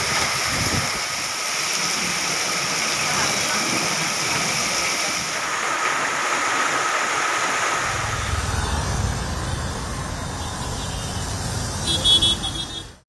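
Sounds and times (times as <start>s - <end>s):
heavy rain pouring on street: 0.0s - 13.0s
slow traffic on wet road: 0.0s - 13.0s.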